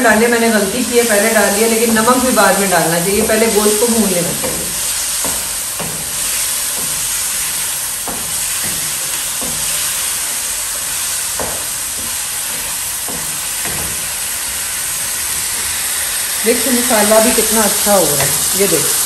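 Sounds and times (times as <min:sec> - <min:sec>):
chicken sizzling in a pan: 0:00.1 - 0:19.0
wooden spatula scraping a pan: 0:00.9 - 0:18.6.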